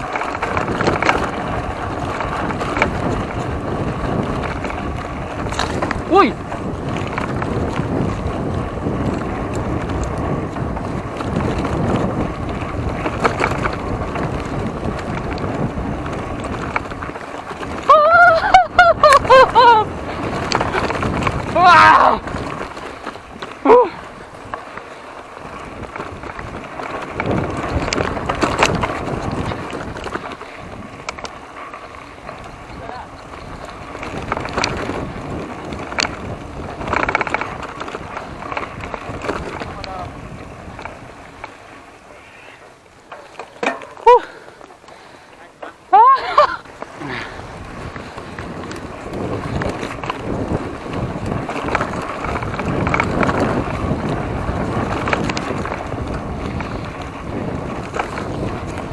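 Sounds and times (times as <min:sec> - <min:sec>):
wind rushing over microphone: 0:00.0 - 0:43.0, 0:43.6 - 0:58.9
bike rattling on dirt trail: 0:00.0 - 0:58.9.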